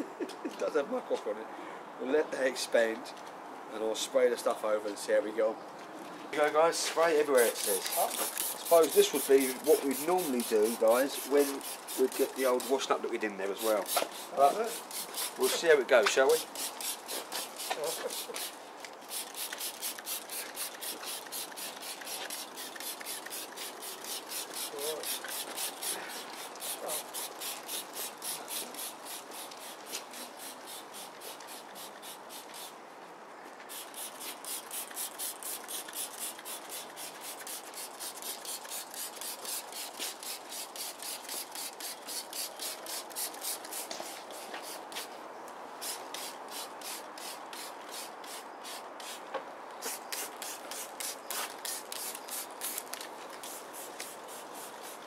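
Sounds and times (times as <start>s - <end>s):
spray bottle hissing: 7.2s - 13.0s, 13.6s - 32.8s, 33.7s - 45.1s, 45.8s - 49.2s, 49.8s - 55.0s.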